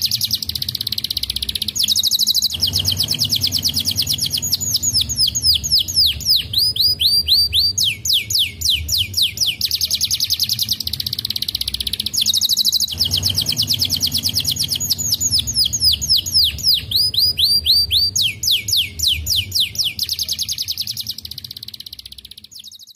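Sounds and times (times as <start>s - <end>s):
canary singing: 0.0s - 22.9s.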